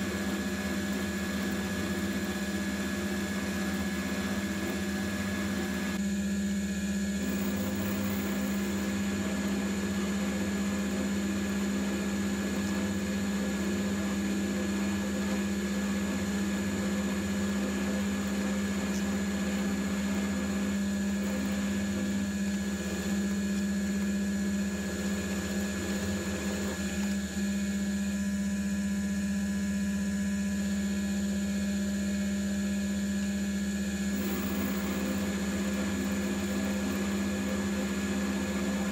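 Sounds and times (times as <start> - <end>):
high whine of cutting: 0.0 - 38.9
mill drill motor hum: 0.0 - 38.9.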